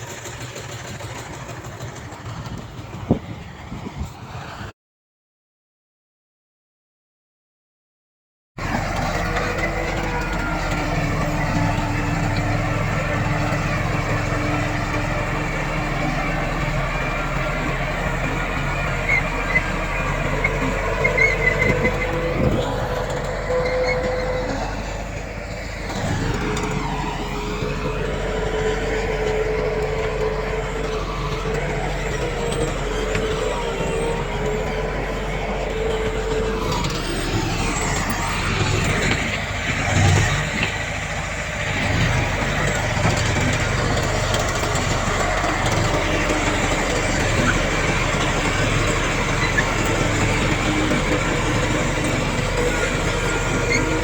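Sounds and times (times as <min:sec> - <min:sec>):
diesel engines droning: 0:00.0 - 0:04.7, 0:08.6 - 0:54.0.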